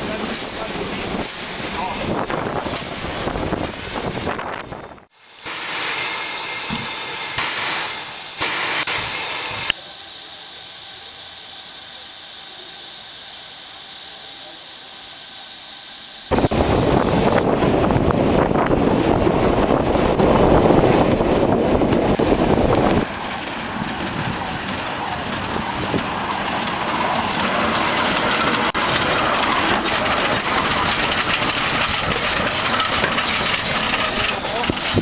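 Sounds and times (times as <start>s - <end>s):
loud rush of steam: 0.0s - 35.0s
steam locomotive hiss and rumble: 0.0s - 35.0s.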